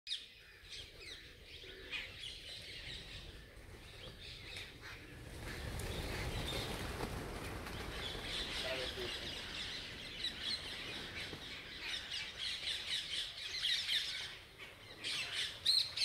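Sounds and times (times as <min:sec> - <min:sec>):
birds chirping: 0:00.1 - 0:16.0.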